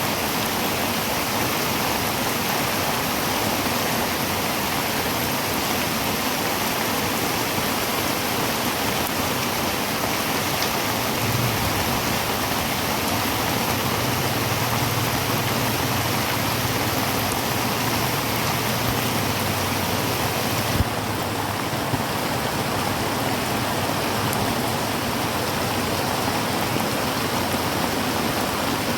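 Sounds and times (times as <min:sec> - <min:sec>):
heavy rain on a tin roof: 0:00.0 - 0:28.9.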